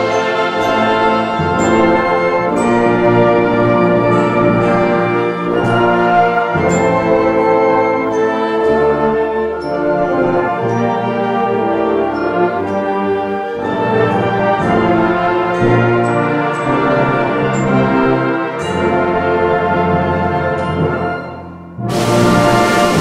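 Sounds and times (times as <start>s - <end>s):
wind band playing chords: 0.0s - 23.0s.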